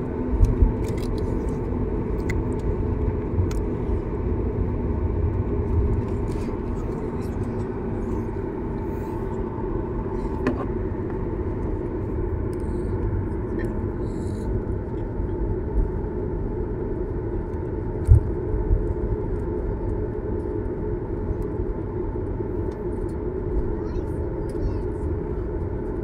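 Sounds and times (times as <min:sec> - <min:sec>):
cabin rumble: 0:00.0 - 0:20.4, 0:22.5 - 0:26.0
jet engines humming: 0:00.0 - 0:26.0.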